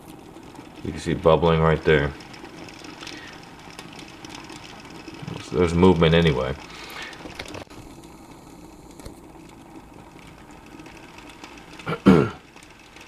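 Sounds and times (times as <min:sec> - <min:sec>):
kettle heating noise: 0:00.0 - 0:13.0.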